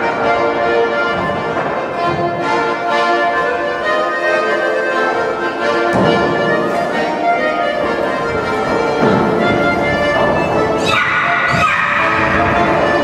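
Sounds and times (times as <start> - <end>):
instrumental folk music: 0.0 - 13.0.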